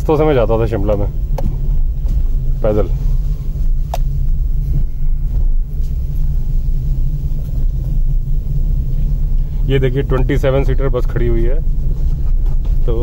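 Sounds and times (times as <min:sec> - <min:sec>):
car rumbling over rough road: 0:00.0 - 0:13.0.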